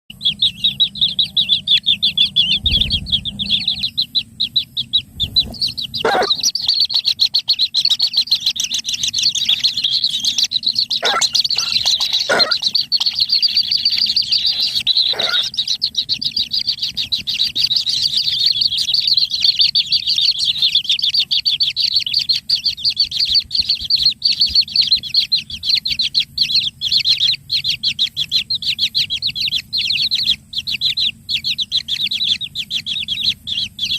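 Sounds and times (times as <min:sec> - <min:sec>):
bird chick high-pitched chatter: 0:00.1 - 0:33.9
low sweeping bird calls: 0:00.1 - 0:33.9.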